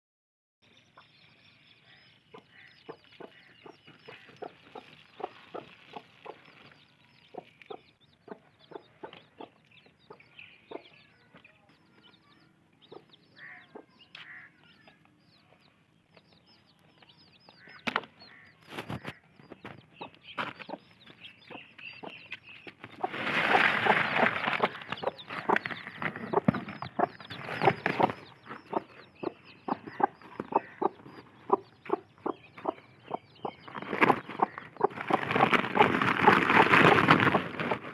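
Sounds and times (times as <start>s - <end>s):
chickens clucking: 0.9s - 37.9s.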